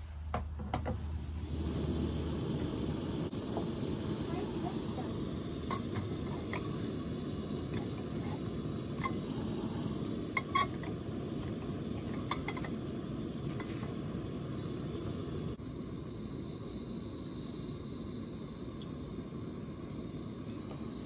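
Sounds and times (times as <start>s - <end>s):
camping stove burning: 0.0s - 21.0s.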